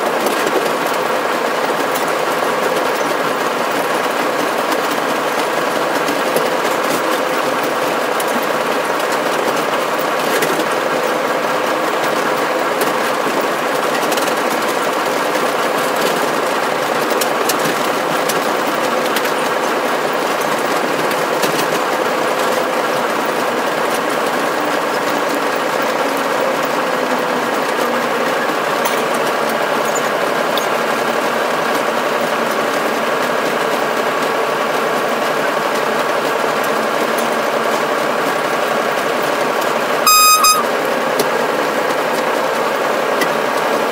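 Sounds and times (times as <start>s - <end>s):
locomotive engine drone: 0.0s - 43.9s.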